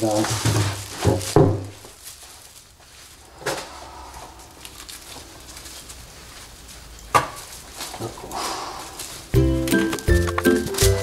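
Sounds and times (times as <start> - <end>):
plastic bag rustling and crinkling: 0.0 - 11.0.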